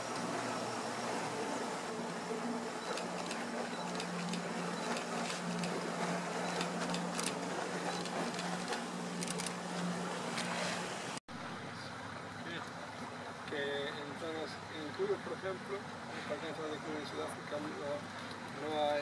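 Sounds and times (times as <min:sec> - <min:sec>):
boat motor humming: 0:00.0 - 0:19.0
rushing water: 0:00.0 - 0:19.0
wind: 0:00.0 - 0:19.0.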